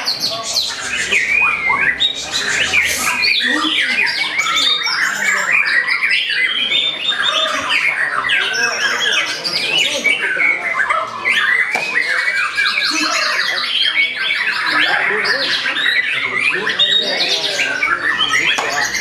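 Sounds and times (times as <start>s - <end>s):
chorus of songbirds: 0.0s - 19.0s
songbird singing rapid phrases: 0.0s - 19.0s.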